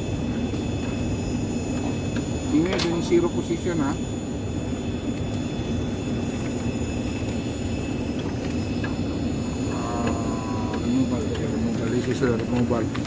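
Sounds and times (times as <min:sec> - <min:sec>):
aircraft machinery drone: 0:00.0 - 0:13.0
high-pitched steady tones: 0:00.0 - 0:13.0.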